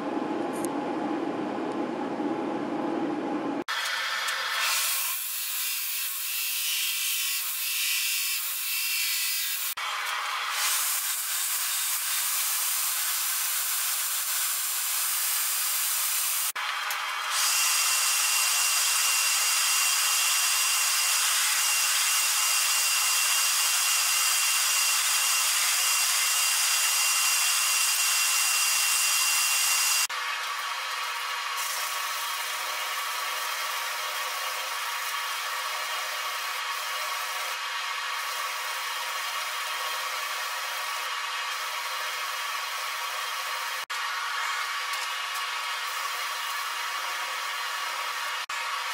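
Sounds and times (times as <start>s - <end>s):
belt grinder grinding wood: 3.7s - 48.9s.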